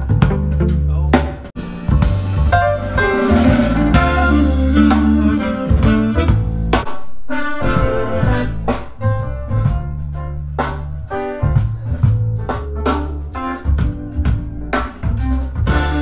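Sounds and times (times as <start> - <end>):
deep bass line: 0.0 - 16.0
drum kit: 0.0 - 16.0
piano: 0.0 - 16.0.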